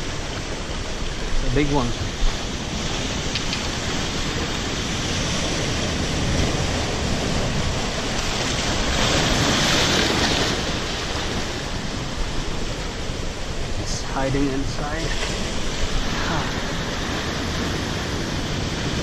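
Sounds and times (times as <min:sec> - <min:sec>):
sea surf surging through rocks: 0:00.0 - 0:19.0.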